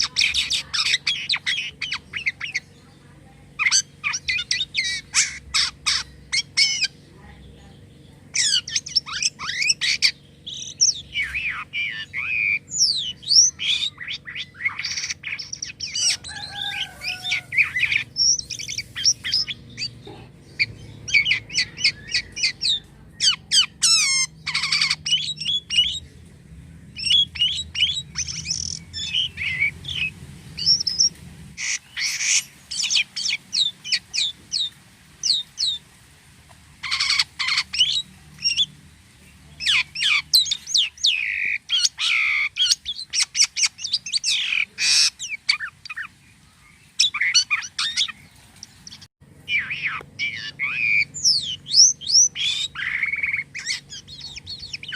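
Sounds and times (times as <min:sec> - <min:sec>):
starling singing: 0:00.0 - 0:35.8, 0:36.5 - 0:54.9.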